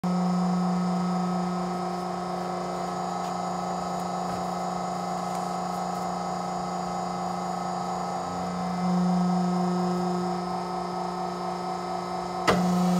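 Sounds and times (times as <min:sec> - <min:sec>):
press machine electric hum: 0:00.0 - 0:12.9.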